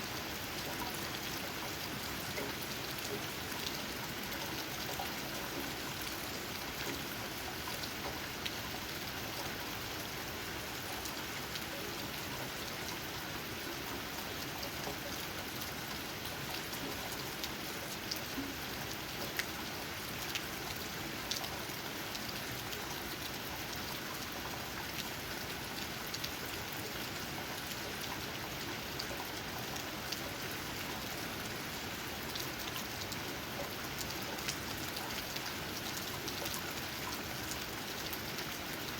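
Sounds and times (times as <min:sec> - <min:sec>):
raindrops pattering on leaves: 0:00.0 - 0:38.9
steady rain: 0:00.0 - 0:38.9.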